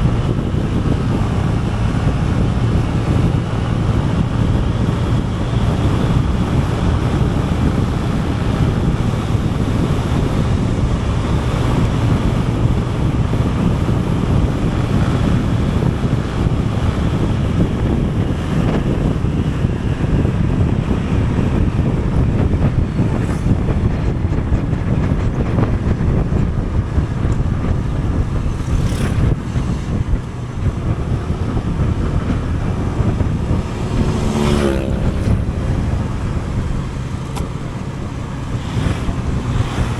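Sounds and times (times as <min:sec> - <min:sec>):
vehicle and road noise: 0:00.0 - 0:39.9
wind rushing over microphone: 0:00.0 - 0:39.9.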